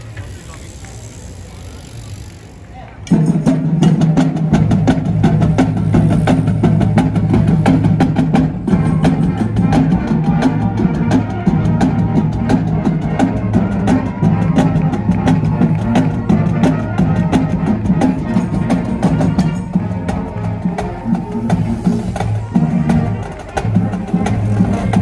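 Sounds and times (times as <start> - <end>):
snare and bass drums beat: 3.1 - 25.0
held low brass notes: 3.3 - 25.0.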